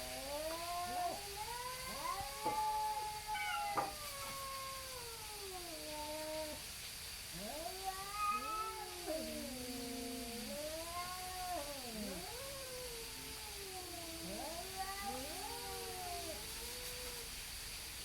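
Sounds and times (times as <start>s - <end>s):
cats caterwauling: 0.0s - 17.4s.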